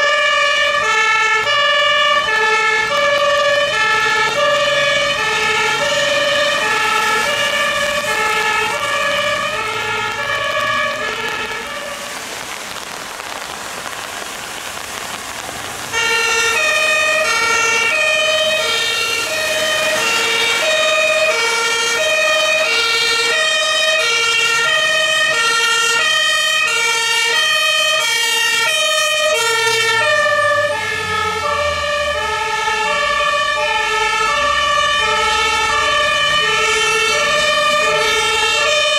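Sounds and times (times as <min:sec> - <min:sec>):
road traffic noise: 0:00.0 - 0:38.9
two-tone fire engine siren: 0:00.0 - 0:38.9.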